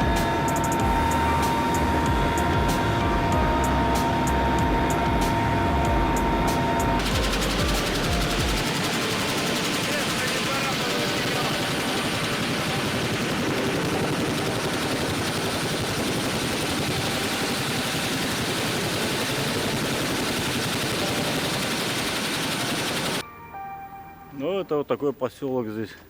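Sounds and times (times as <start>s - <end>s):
helicopter rotor and turbine: 0.0s - 23.2s
high steady whine: 0.0s - 23.2s.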